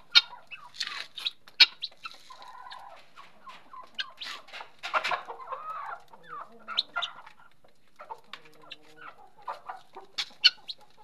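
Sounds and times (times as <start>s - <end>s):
guinea fowl harsh calls: 0.0s - 10.8s.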